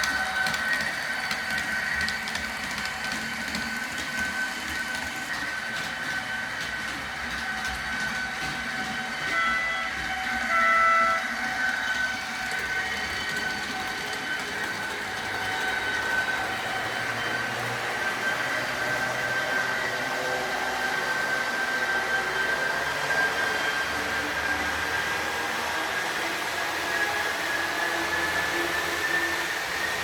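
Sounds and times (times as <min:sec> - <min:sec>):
model train motor whine: 0:00.0 - 0:30.0.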